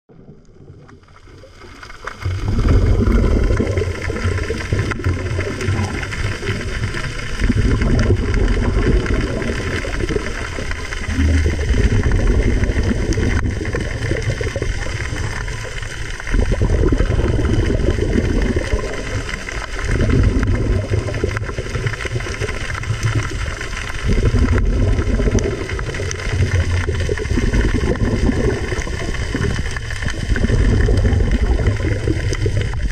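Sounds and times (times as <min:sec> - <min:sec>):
muffled underwater rumbling wash: 0:00.1 - 0:32.9.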